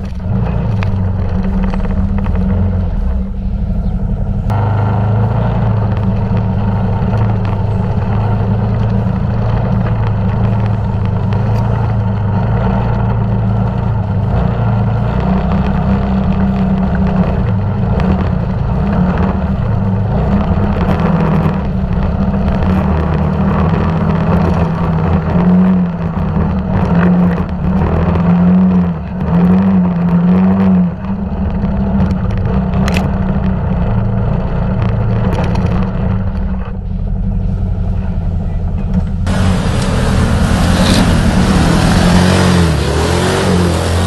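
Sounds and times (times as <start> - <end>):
quad bike engine revving: 0.0 - 36.8, 38.1 - 44.0.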